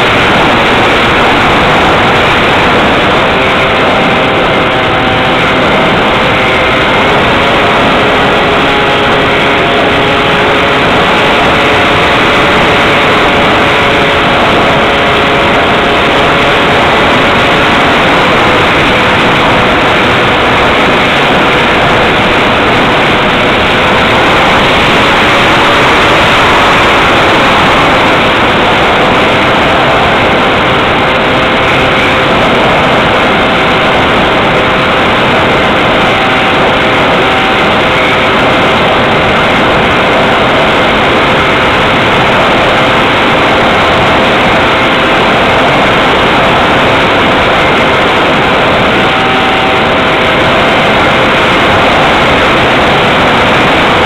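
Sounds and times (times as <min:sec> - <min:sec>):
electric motor and propeller drone: 0:00.0 - 0:54.0
wind rushing: 0:00.0 - 0:54.0.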